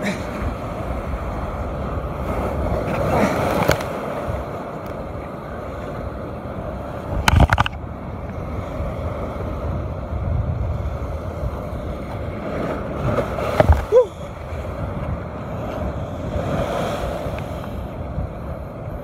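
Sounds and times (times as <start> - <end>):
surf washing on rocks: 0.0 - 19.0
wind buffeting microphone: 0.0 - 19.0.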